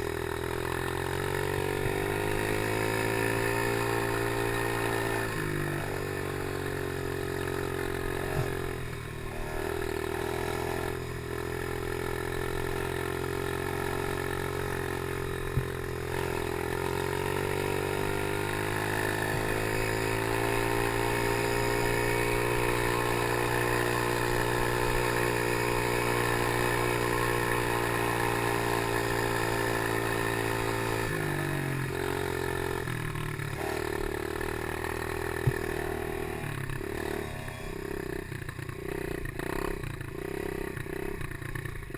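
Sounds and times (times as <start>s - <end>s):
motocross bike engine: 0.0s - 41.9s.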